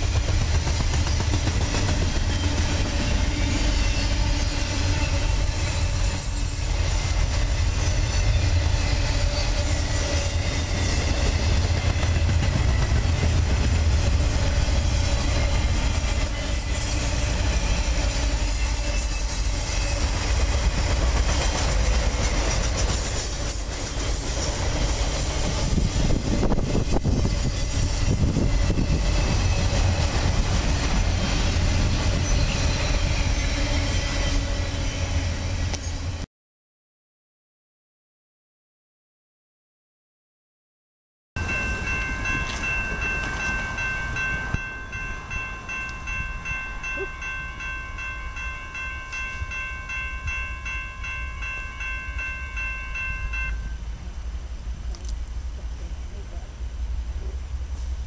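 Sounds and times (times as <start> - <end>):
freight train rolling on rails: 0.0 - 36.2, 41.4 - 58.0.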